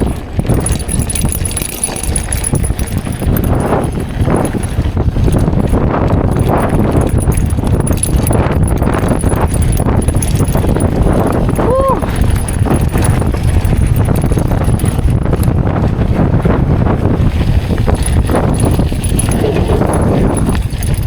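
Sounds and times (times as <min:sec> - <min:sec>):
bike clattering and rattling: 0:00.0 - 0:21.0
knobby tyres crunching over rock: 0:00.0 - 0:21.0
wind rumbling on microphone: 0:00.0 - 0:21.0.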